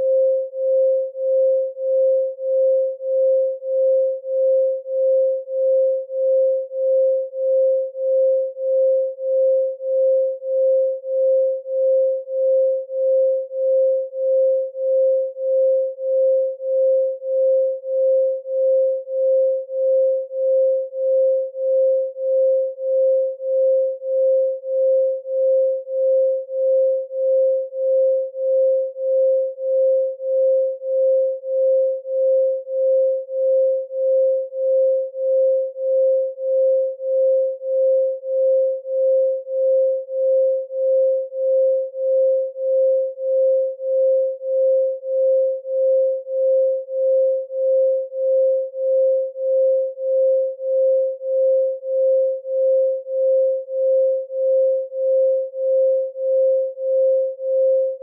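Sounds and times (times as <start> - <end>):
pulsing sine tone: 0.0 - 58.0.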